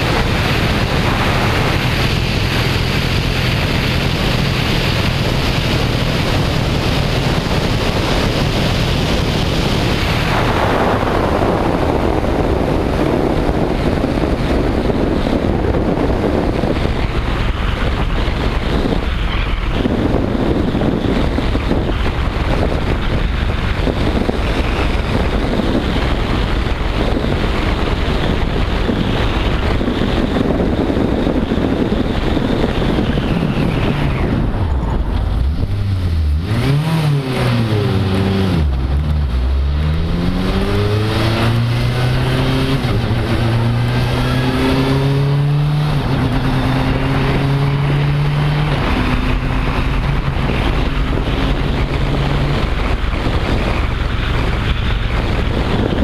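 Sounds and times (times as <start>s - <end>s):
car engine running: 0.0s - 56.0s
wind rushing over camera: 0.0s - 56.0s.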